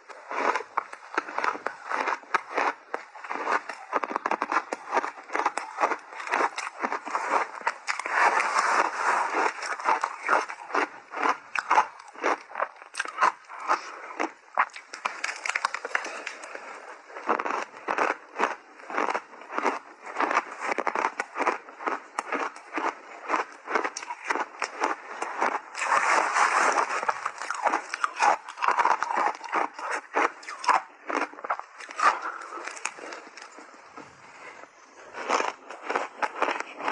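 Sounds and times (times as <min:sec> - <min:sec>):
chewing crunchy ice: 0:00.0 - 0:36.9.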